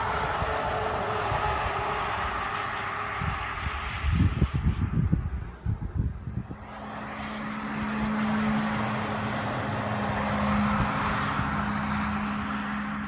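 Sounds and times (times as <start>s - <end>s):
fire engine driving past: 0.0s - 13.0s.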